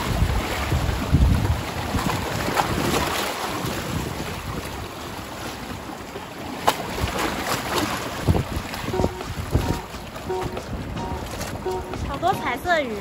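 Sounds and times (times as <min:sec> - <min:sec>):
wind buffeting microphone: 0:00.0 - 0:05.0, 0:06.9 - 0:13.0
surf washing against rocks: 0:00.0 - 0:13.0.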